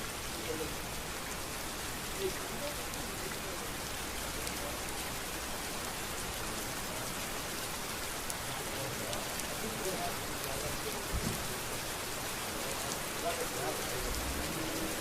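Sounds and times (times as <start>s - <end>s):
rain falling on a street: 0.0s - 15.0s.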